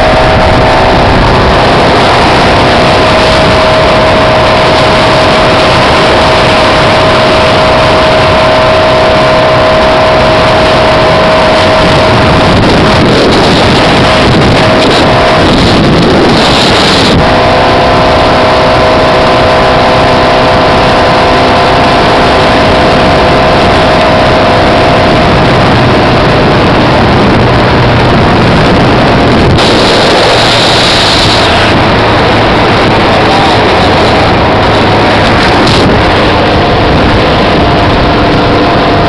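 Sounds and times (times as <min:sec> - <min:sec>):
motorboat engine running: 0:00.0 - 0:39.0
wind buffeting microphone: 0:00.0 - 0:39.0.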